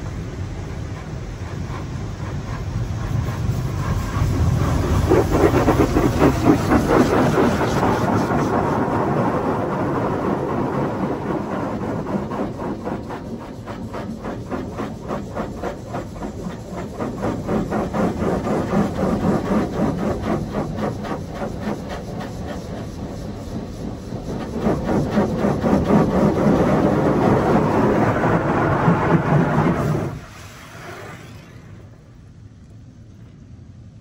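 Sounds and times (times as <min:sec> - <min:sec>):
high-pressure water spraying on car: 0:00.3 - 0:32.0.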